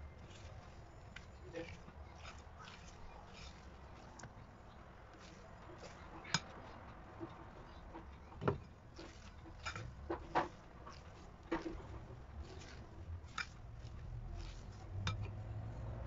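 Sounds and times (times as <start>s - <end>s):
spatula stirring thick batter: 0.0s - 16.0s.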